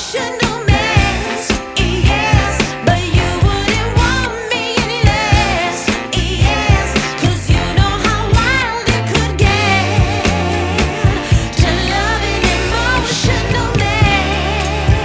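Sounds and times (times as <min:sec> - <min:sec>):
person singing with vibrato: 0:00.0 - 0:15.0
steady drum beat: 0:00.0 - 0:15.0
bass line: 0:00.5 - 0:15.0.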